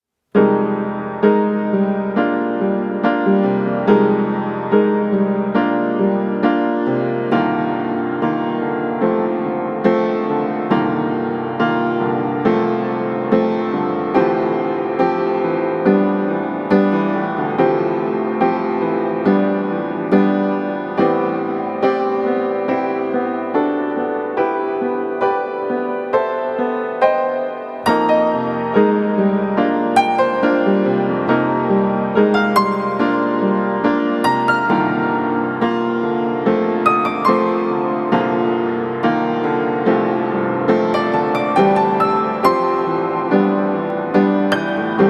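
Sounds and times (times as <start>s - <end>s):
slow gentle piano music: 0.3s - 45.0s.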